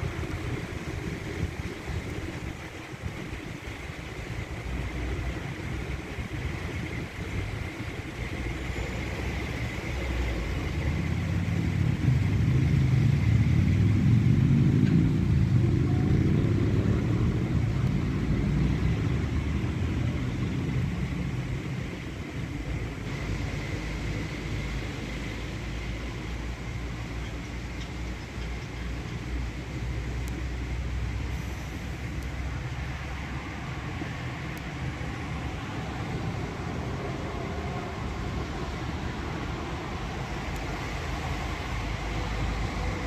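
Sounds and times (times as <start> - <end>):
low rumble of machinery: 0.0 - 43.0.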